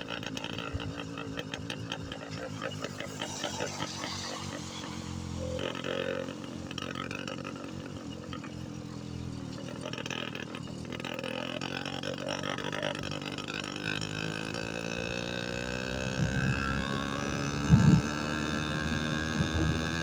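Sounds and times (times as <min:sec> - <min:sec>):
motorbike engine running without exhaust: 0:00.0 - 0:20.0.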